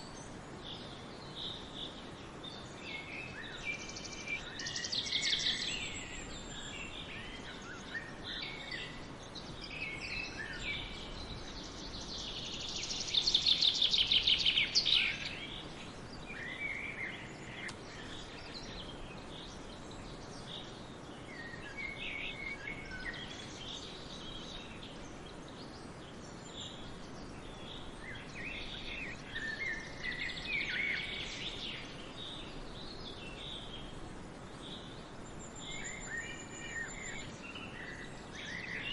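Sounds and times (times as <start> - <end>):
faint background hiss: 0.0 - 38.9
songbirds singing and calling: 0.0 - 38.9.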